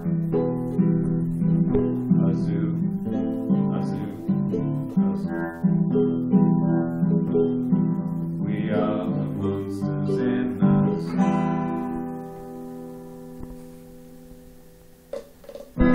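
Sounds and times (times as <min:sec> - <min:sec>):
guitar strumming chords: 0:00.0 - 0:15.9.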